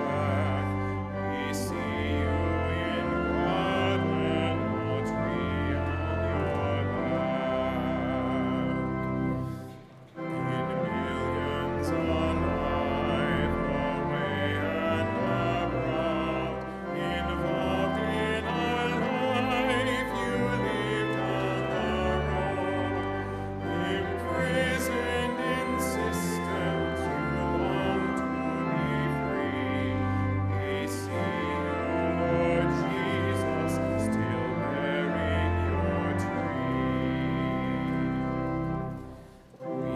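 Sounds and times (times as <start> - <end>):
sustained instrumental accompaniment: 0.0 - 39.9.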